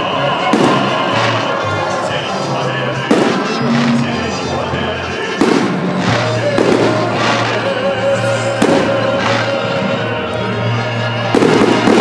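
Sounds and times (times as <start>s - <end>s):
fireworks crackling: 0.0s - 12.0s
music with long held notes: 0.0s - 12.0s.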